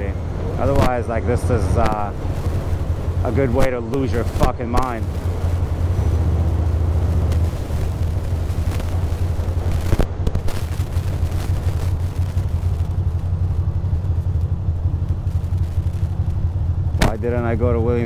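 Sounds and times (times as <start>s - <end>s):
motorcycle engine idling: 2.1s - 18.0s.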